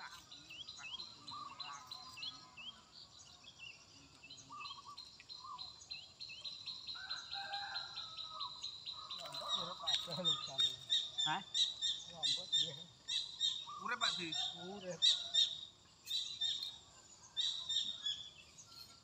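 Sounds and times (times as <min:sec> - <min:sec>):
birds chirping: 0:00.0 - 0:19.0
lower bird calls: 0:00.0 - 0:19.0.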